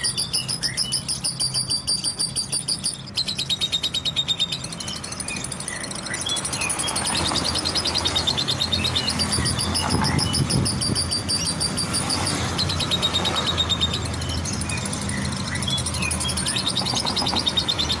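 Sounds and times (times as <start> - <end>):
bird chattering trill: 0.0 - 18.0.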